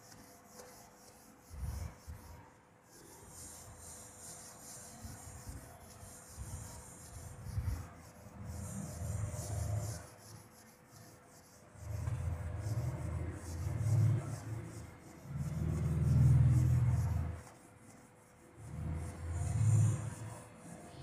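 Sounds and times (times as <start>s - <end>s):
duster rubbing whiteboard: 0.0s - 21.0s.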